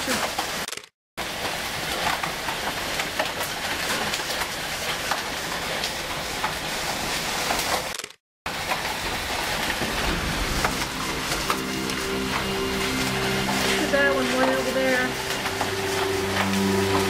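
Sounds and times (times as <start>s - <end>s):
hail and rain on concrete: 0.0s - 7.9s, 8.5s - 17.0s.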